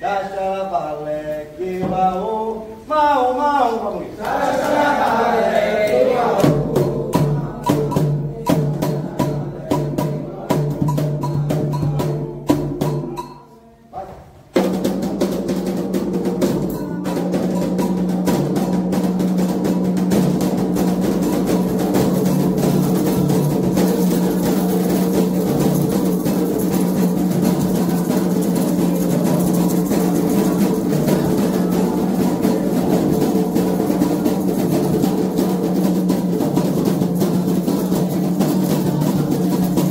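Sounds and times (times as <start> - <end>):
hand drums playing: 4.3 - 13.6, 14.5 - 39.9.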